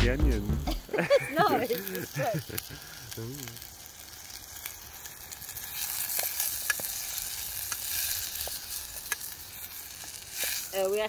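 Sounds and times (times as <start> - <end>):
onions sizzling in a pot: 0.5 - 11.0
sharp crackle: 1.6 - 11.0.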